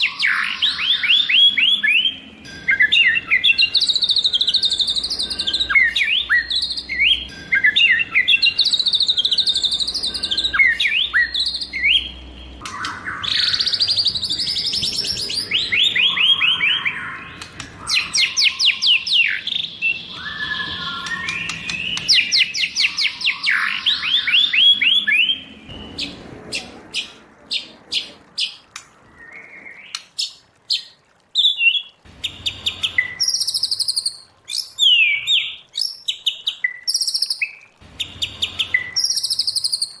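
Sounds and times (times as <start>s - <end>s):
songbird whistled song and trills: 0.0s - 40.0s.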